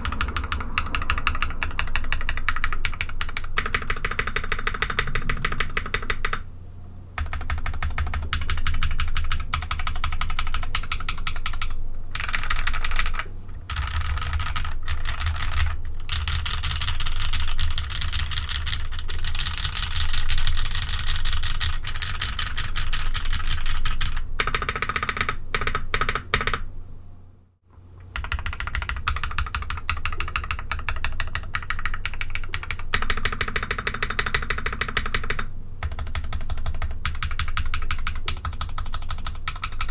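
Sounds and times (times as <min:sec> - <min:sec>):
mechanical keyboard typing: 0:00.0 - 0:06.4, 0:07.2 - 0:26.7, 0:28.0 - 0:39.9.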